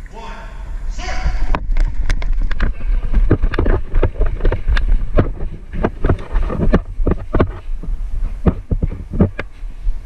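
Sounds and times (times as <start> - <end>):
wind on microphone: 0.0 - 10.0
microphone handling rumble: 0.7 - 10.0
sharp clicks and knocks: 1.5 - 9.6.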